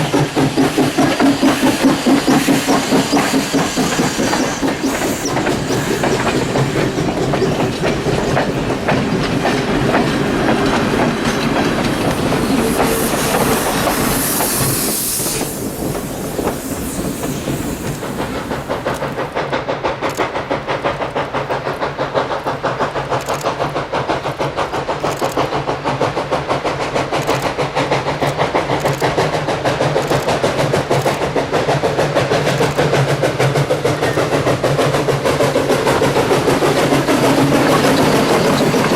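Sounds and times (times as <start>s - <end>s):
wheels clattering over rails: 0.0s - 14.6s, 15.4s - 38.9s
steam hiss: 0.0s - 38.9s
steam train rumbling and clattering: 0.0s - 38.9s.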